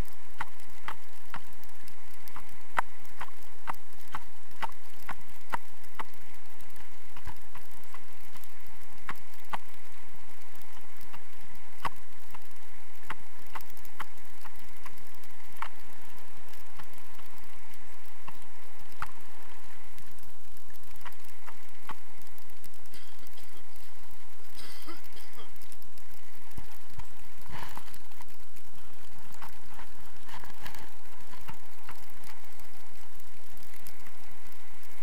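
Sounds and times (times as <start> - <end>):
sharp clicks: 0.0 - 35.0
wind noise on microphone: 0.0 - 35.0.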